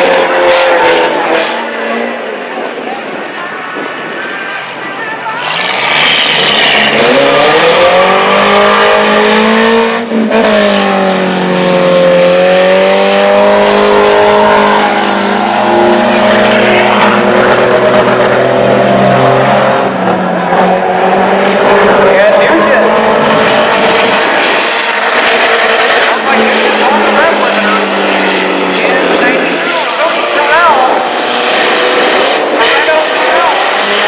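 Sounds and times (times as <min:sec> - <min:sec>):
race car engines: 0:00.0 - 0:34.0.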